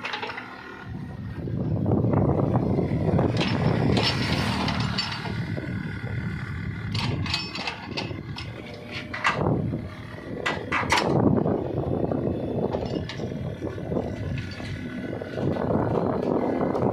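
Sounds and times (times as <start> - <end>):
mini excavator engine running: 0.0 - 16.9.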